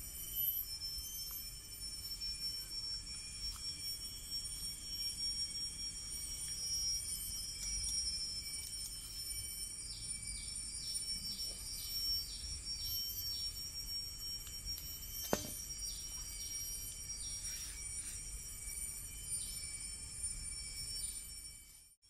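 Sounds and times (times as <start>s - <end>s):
insects droning: 0.0s - 21.9s.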